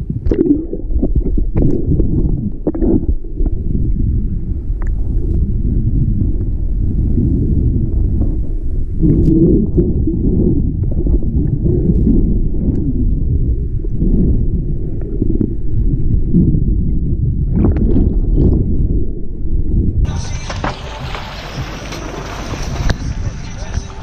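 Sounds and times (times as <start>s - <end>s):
muffled underwater water rumble: 0.0s - 24.0s.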